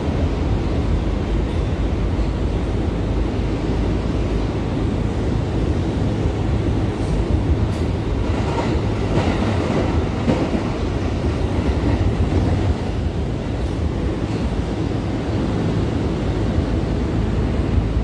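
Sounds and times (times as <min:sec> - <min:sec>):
subway wheels rumbling on rails: 0:00.0 - 0:18.0.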